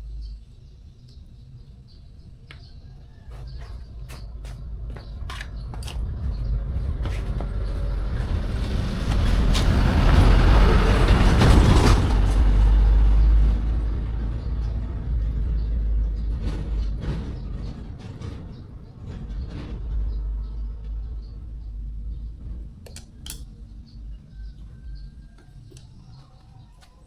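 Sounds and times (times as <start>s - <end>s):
passing vehicle engine rumble: 0.0s - 27.0s.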